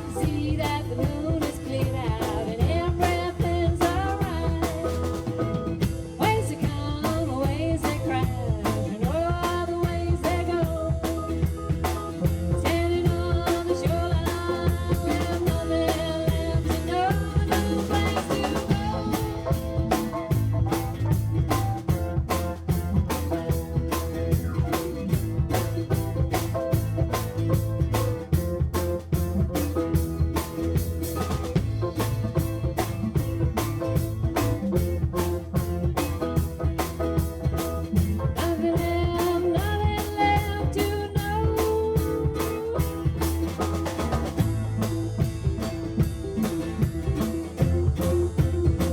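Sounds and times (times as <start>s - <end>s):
bass: 0.0s - 48.9s
drum kit beat: 0.0s - 48.9s
guitar: 0.0s - 48.9s.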